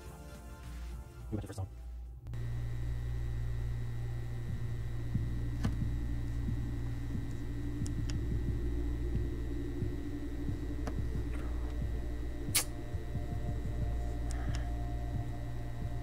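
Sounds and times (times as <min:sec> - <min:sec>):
low electrical hum: 0:02.0 - 0:16.0.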